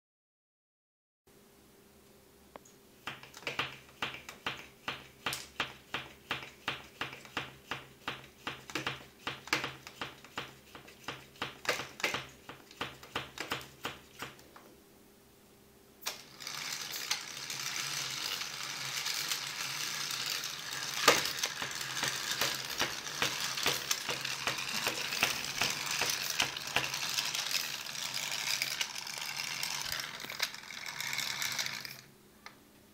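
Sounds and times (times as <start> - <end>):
plastic parts clicking and rattling: 3.0 - 14.6, 16.0 - 32.1.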